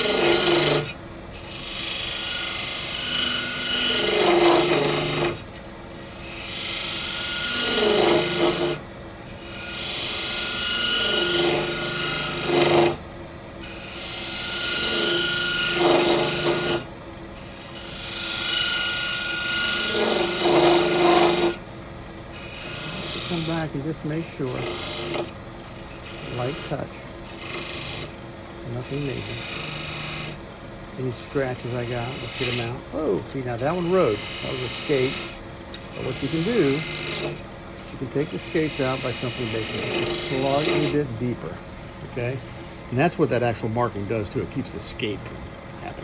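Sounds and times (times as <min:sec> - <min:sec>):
tool cutting wood on lathe: 0:00.0 - 0:05.5, 0:06.2 - 0:13.0, 0:13.6 - 0:21.6, 0:22.3 - 0:30.4, 0:31.1 - 0:32.8, 0:33.4 - 0:41.1
lathe humming: 0:00.0 - 0:21.6, 0:22.2 - 0:45.1.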